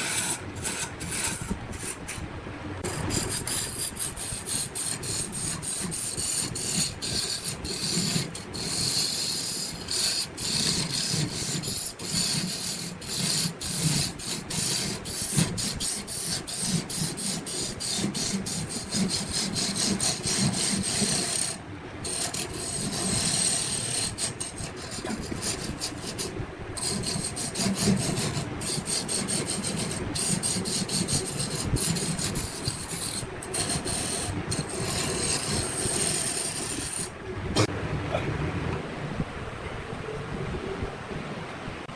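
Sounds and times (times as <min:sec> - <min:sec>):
lathe tool scraping wood: 0:00.0 - 0:02.2, 0:02.8 - 0:37.2.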